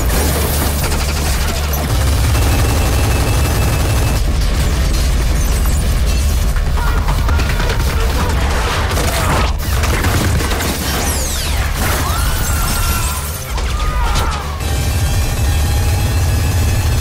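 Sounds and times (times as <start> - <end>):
crashes and shattering: 0.0 - 15.2
loud film score: 0.0 - 17.0.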